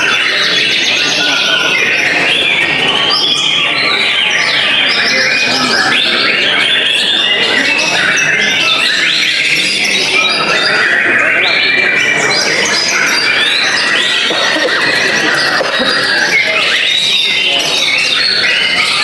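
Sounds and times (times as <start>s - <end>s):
songbirds singing whistled trills: 0.0s - 19.0s.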